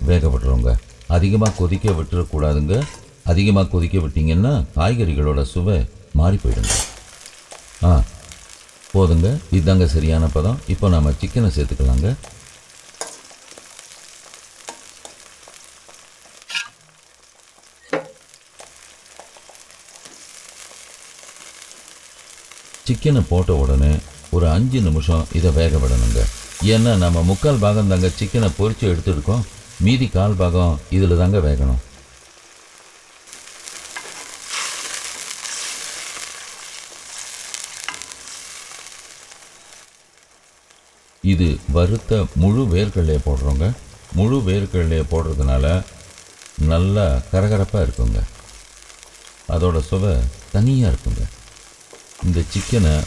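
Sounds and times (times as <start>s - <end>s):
sizzling hiss: 0.0s - 53.0s.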